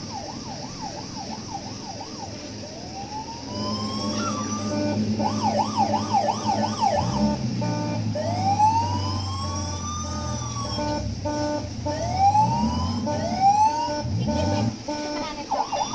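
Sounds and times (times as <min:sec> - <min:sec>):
electronic siren whoop: 0:00.0 - 0:15.9.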